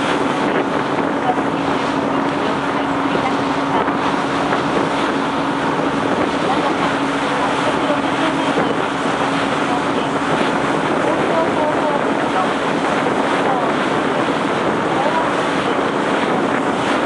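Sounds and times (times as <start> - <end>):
engine hum: 0.0 - 17.0
water rushing along hull: 0.0 - 17.0
wind buffeting microphone: 0.0 - 17.0.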